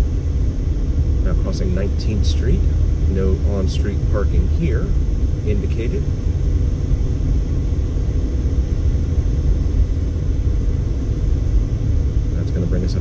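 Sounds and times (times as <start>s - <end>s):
road and tyre noise in car cabin: 0.0s - 13.0s.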